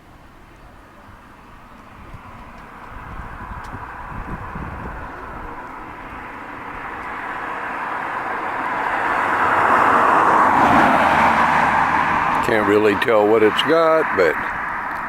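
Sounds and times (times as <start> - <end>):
car approaching: 0.0 - 15.0.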